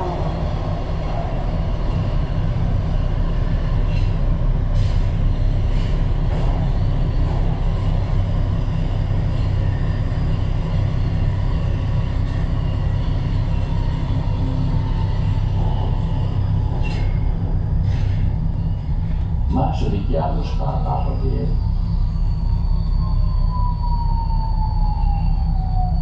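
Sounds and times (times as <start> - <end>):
metro train rumble in tunnel: 0.0 - 26.0.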